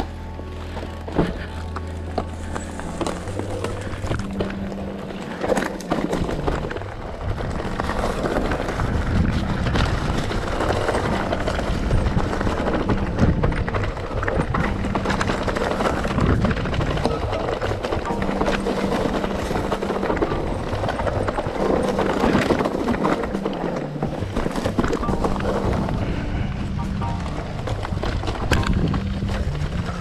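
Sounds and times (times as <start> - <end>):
bike rattling over rough trail: 0.0 - 30.0.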